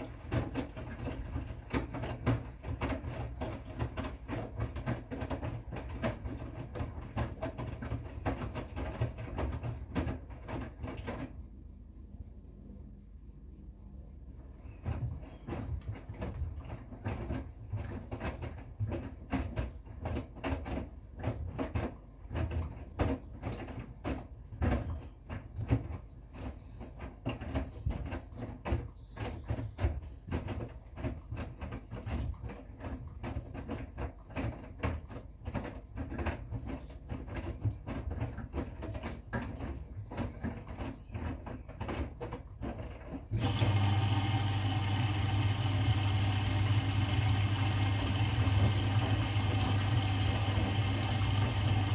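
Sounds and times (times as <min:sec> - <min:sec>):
washing machine drum tumbling laundry: 0:00.0 - 0:12.4, 0:14.1 - 0:51.9.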